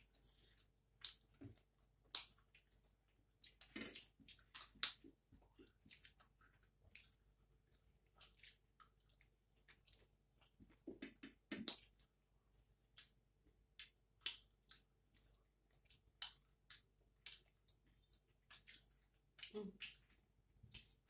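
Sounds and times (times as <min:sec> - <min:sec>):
mouth clicks and chewing: 0:00.0 - 0:21.0.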